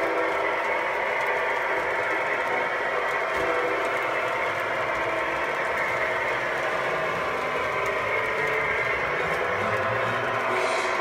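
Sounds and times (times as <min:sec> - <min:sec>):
model train whirring on rails: 0:00.0 - 0:11.0.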